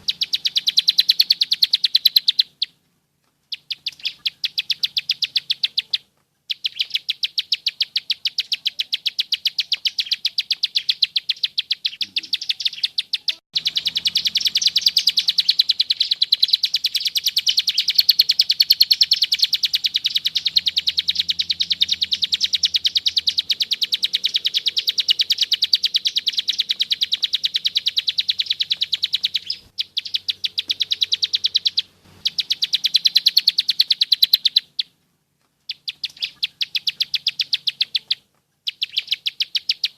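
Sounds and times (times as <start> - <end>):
bird singing rapid clicking notes: 0.0 - 2.8, 3.4 - 35.0, 35.7 - 39.9.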